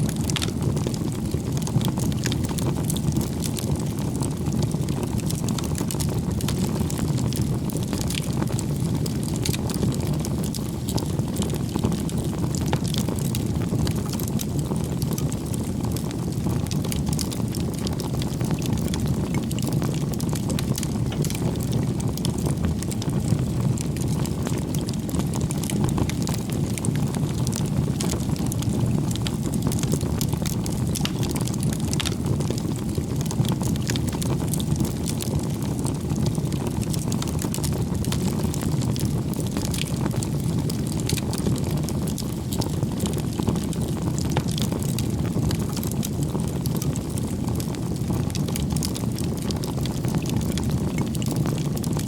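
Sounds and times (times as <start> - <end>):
bonfire flames rumbling: 0.0 - 52.0
burning wood crackling: 0.1 - 52.0.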